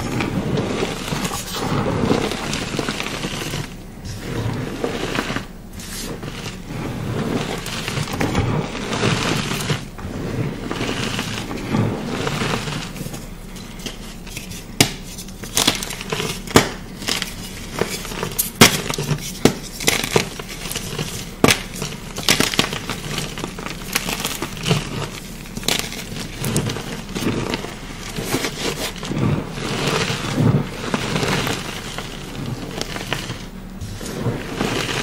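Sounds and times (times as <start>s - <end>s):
chalk crunching and crumbling: 0.0s - 35.0s.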